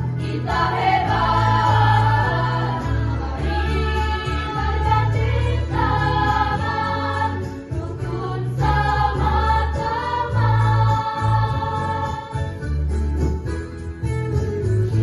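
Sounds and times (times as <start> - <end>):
children's choir singing: 0.0 - 12.6
bass-heavy accompaniment: 0.0 - 15.0.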